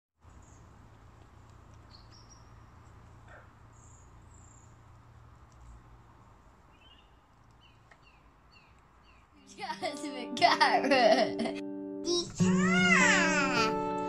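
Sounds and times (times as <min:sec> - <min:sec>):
outdoor background hiss: 0:00.2 - 0:11.6.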